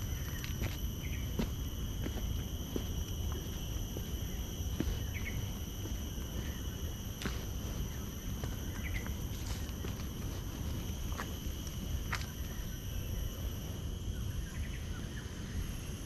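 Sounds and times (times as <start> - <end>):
footsteps on garden path: 0.0 - 13.2
high-pitched insect drone: 0.0 - 16.0.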